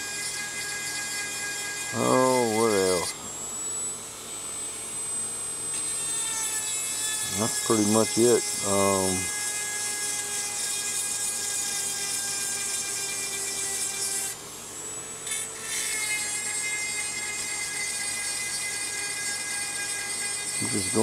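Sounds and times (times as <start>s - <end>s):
rotary tool grinding chain: 0.0s - 3.1s, 6.0s - 14.4s, 15.3s - 21.0s.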